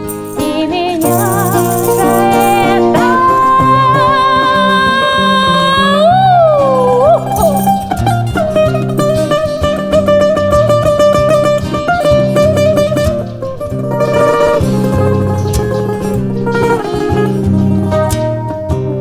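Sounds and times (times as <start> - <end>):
acoustic guitar chords: 0.0 - 19.0
bouzouki melody: 0.0 - 19.0.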